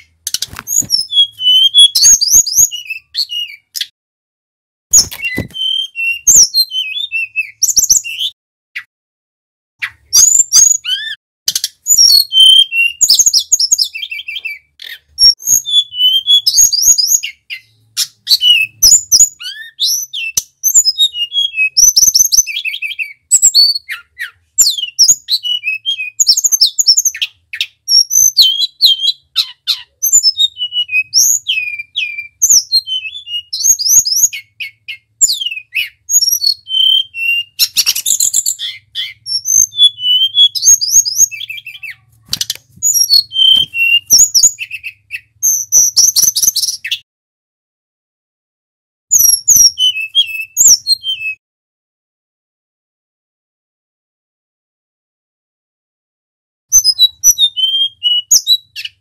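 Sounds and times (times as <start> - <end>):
bird singing high whistled phrases: 0.7 - 3.9, 4.9 - 8.9, 9.8 - 11.2, 11.8 - 47.0, 49.1 - 51.4, 56.7 - 59.0.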